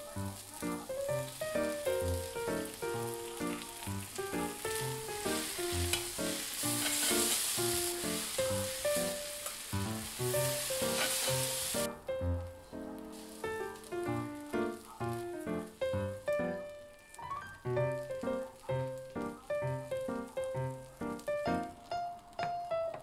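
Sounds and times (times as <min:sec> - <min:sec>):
noodles sizzling on a griddle: 0:00.0 - 0:12.0, 0:12.6 - 0:23.0.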